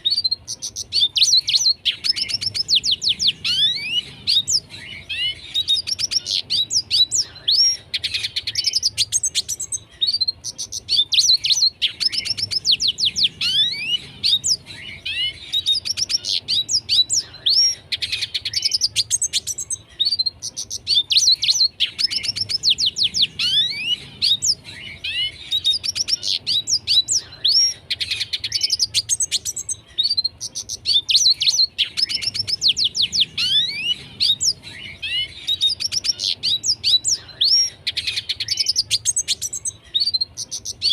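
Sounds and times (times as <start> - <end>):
bird singing twittering phrases: 0.0 - 40.9.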